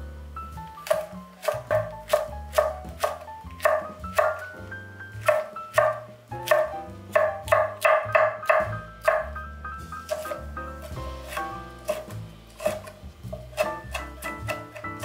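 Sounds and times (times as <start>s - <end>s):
light background music: 0.0s - 15.0s
knife chopping on wooden board: 0.8s - 4.6s, 5.2s - 9.4s, 10.0s - 15.0s.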